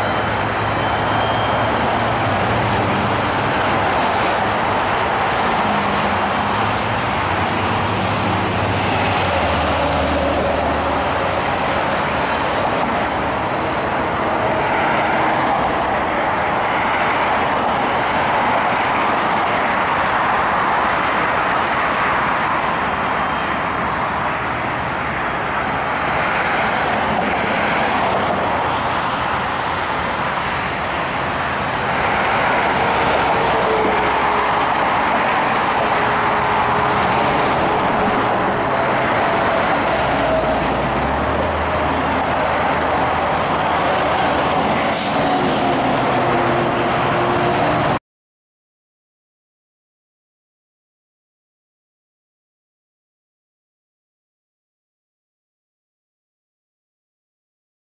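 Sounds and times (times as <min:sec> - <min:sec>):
heavy vehicle rumble: 0:00.0 - 0:48.0
road traffic passing: 0:00.0 - 0:48.0.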